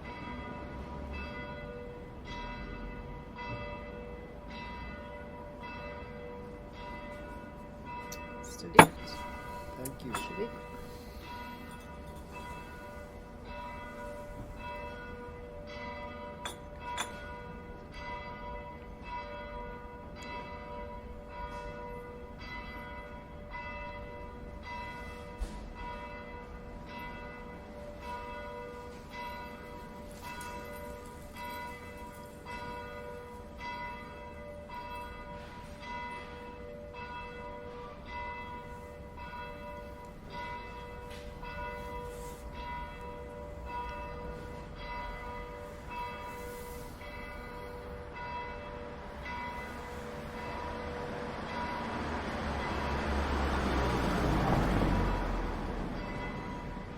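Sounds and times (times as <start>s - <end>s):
bells ringing: 0.0s - 56.9s.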